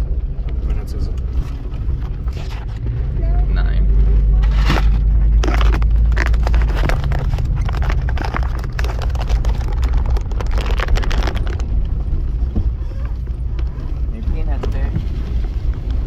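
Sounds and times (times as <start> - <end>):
engine and tyre drone: 0.0 - 16.0.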